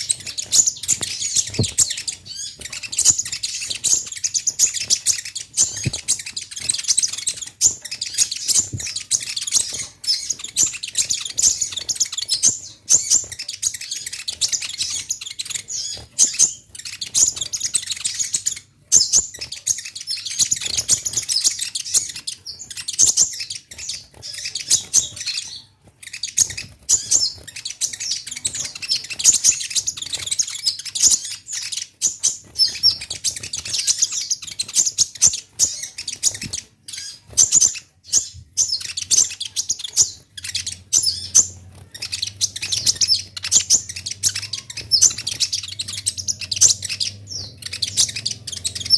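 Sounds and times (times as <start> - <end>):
sunbird chirping: 0.0 - 48.9.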